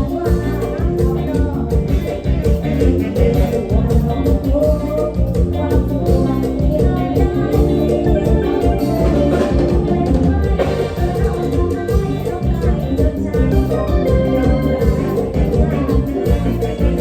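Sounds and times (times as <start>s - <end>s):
drum kit beat: 0.0s - 17.0s
live band dance music: 0.0s - 17.0s.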